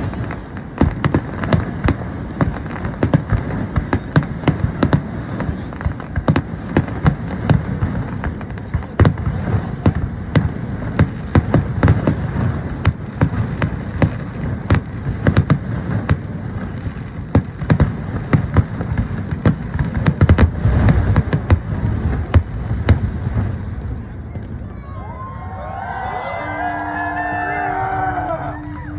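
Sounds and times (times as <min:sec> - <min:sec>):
fireworks bangs and pops: 0:00.0 - 0:27.7.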